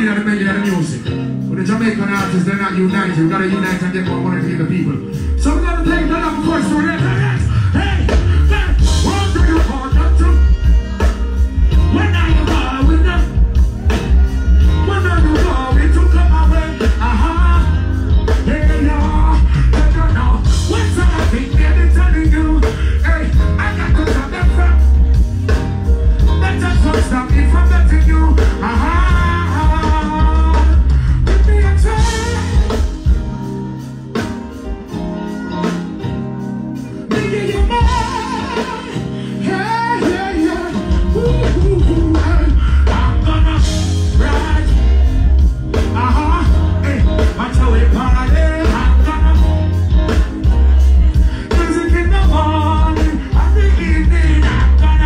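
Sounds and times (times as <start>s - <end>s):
man singing: 0.0s - 33.2s, 36.9s - 55.0s
live reggae band: 0.0s - 55.0s.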